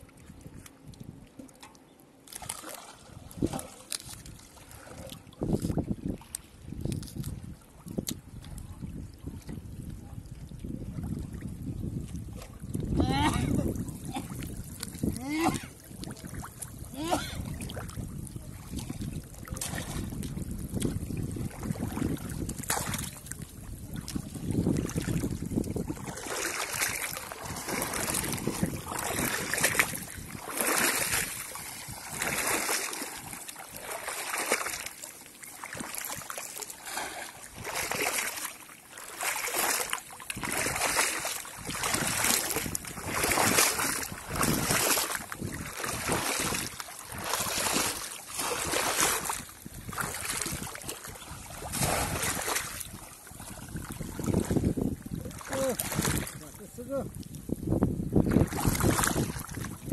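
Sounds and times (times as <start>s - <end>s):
shallow water splashing: 0.0s - 57.2s, 58.2s - 59.9s.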